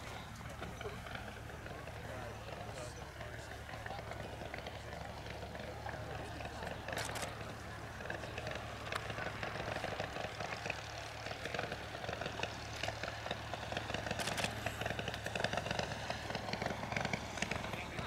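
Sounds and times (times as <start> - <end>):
aircraft engine crackling putter: 0.0 - 18.0.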